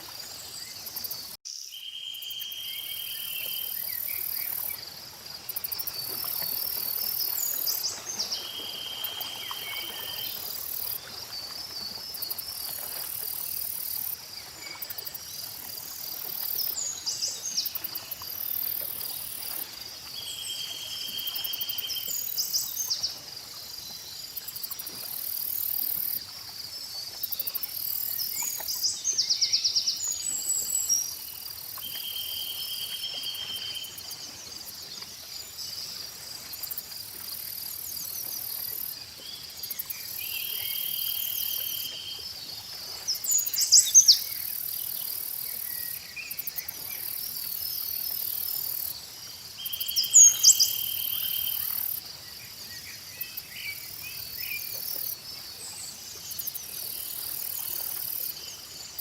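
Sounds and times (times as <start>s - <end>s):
insects and crickets trilling: 0.0s - 59.0s.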